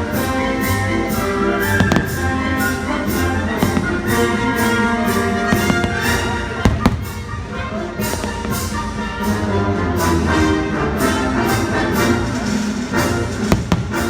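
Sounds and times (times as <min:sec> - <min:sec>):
orchestral music with brass and strings: 0:00.0 - 0:14.0
fireworks bursts cracking: 0:00.1 - 0:09.4, 0:12.0 - 0:14.0.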